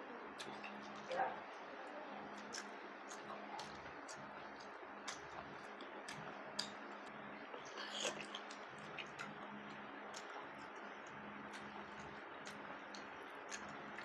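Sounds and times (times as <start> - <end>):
person chewing food: 0.4 - 1.1, 2.3 - 14.0.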